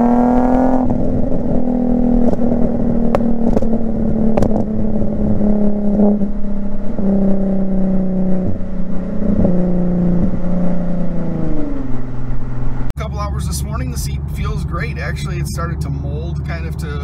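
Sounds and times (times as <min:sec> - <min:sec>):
car exhaust under load: 0:00.0 - 0:17.0.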